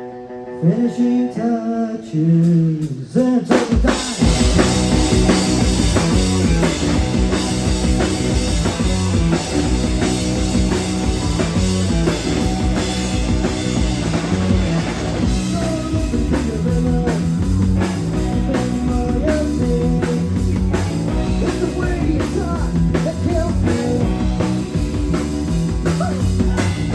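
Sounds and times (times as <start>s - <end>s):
rock band playing live: 0.0s - 26.9s
drum kit beat: 2.4s - 26.9s.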